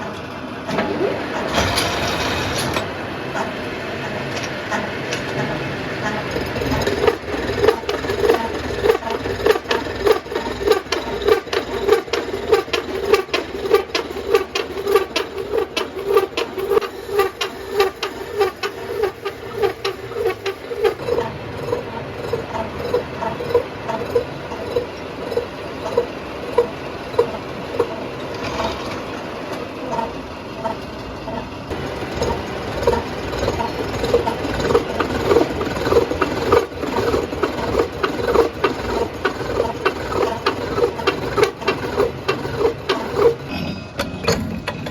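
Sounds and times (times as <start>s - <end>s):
metal being filed rasping: 4.7s - 29.2s, 29.9s - 43.5s.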